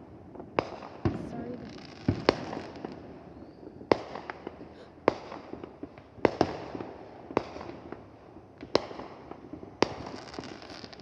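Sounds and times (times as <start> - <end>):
fireworks bangs: 0.0 - 11.0
fireworks pops and crackle: 0.0 - 11.0.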